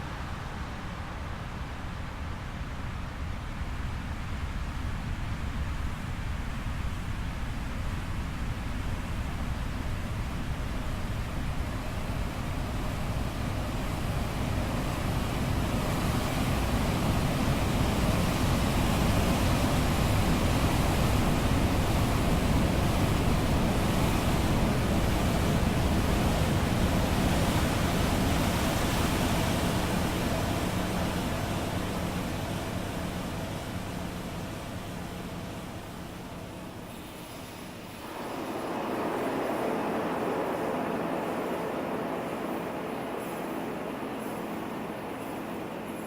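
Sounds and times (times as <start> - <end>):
processed wind and waves rushing: 0.0 - 46.0.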